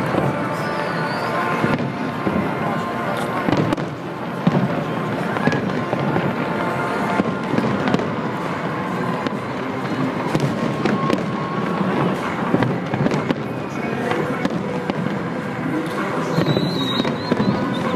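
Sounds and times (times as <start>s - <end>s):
firework bangs: 0.0s - 17.9s
fireworks crackling and popping: 0.0s - 17.9s.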